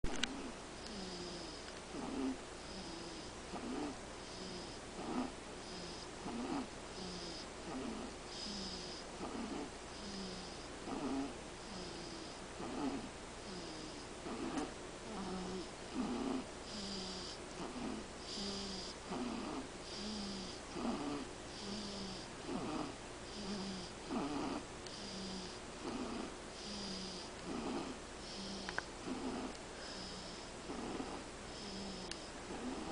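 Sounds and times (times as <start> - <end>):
baby snoring softly: 0.1 - 32.9.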